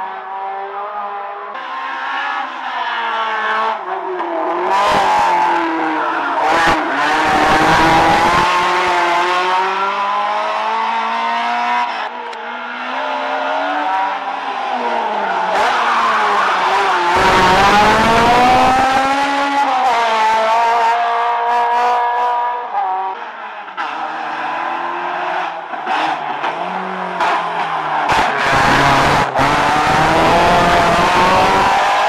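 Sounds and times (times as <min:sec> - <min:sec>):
race car engine revving: 0:00.1 - 0:23.2, 0:23.8 - 0:32.0
second race car engine revving: 0:04.4 - 0:23.2, 0:23.8 - 0:32.0.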